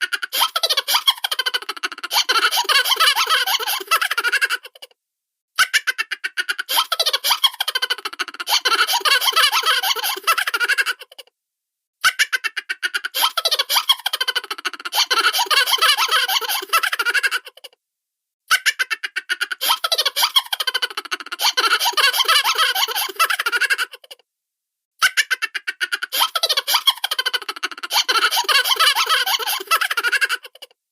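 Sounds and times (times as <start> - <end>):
high-pitched cartoon laughter: 0.0 - 4.9, 5.6 - 11.3, 12.0 - 17.8, 18.5 - 24.2, 25.0 - 30.8.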